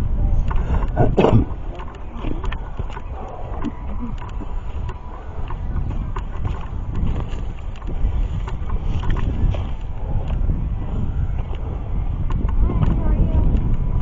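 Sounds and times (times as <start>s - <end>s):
wind buffeting microphone: 0.0s - 14.0s
footsteps on trail: 1.5s - 14.0s.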